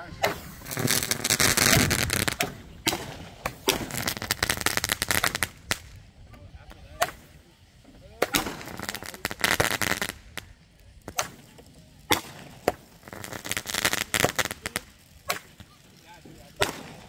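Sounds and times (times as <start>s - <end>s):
fireworks bangs: 0.0s - 17.0s
fireworks rapid crackling: 0.0s - 17.0s.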